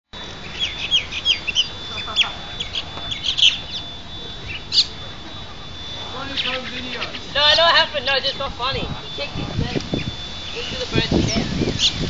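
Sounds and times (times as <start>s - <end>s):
birds chirping: 0.2s - 12.0s
thin steady high tone: 0.2s - 12.0s.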